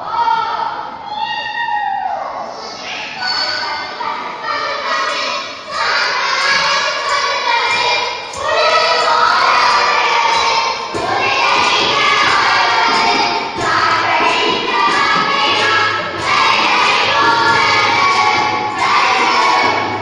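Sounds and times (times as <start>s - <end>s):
voices singing: 2.2s - 20.0s.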